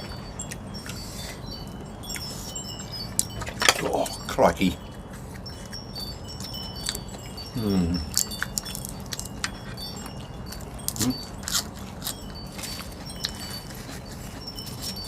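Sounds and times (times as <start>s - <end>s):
wind chimes tinkling: 0.0s - 15.0s.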